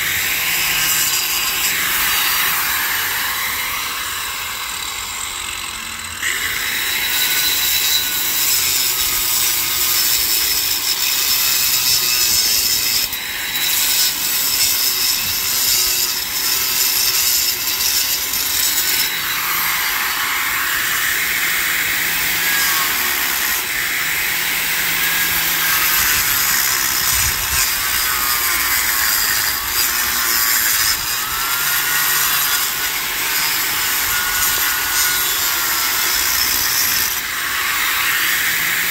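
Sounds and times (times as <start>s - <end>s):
angle grinder cutting concrete: 0.0s - 38.9s.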